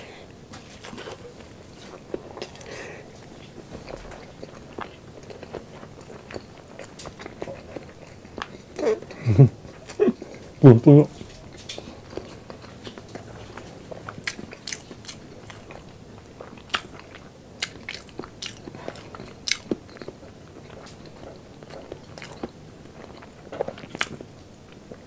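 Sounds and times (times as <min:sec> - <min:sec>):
chewing food: 0:00.5 - 0:25.0.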